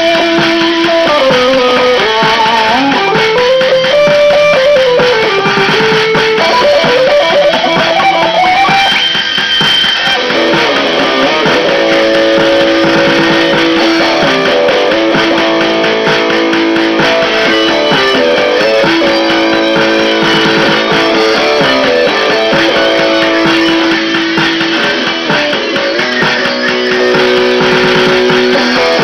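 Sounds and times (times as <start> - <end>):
electric guitar playing: 0.0 - 29.0.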